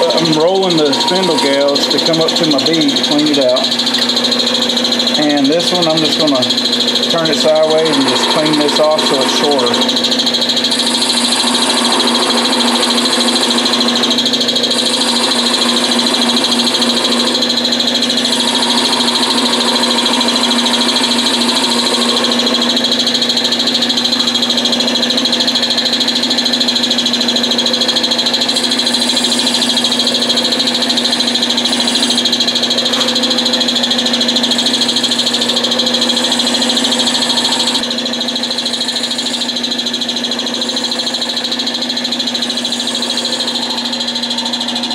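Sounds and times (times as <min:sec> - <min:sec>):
gouge cutting spinning wood: 0:00.0 - 0:44.9
wood lathe humming and whining: 0:00.0 - 0:44.9.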